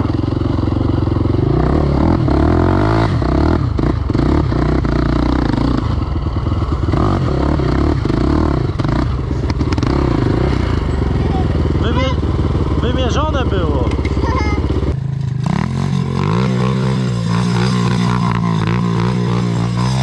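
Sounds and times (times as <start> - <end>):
quad engine revving: 0.0 - 20.0.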